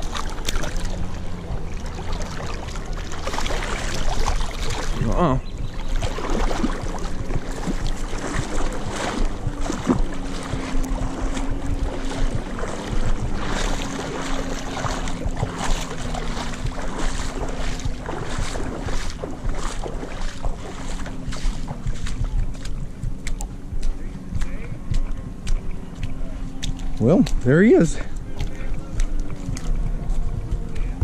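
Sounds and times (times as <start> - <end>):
faint steady hum: 0.0 - 31.0
water splashing while wading: 0.0 - 31.0
wind buffeting microphone: 0.0 - 31.0.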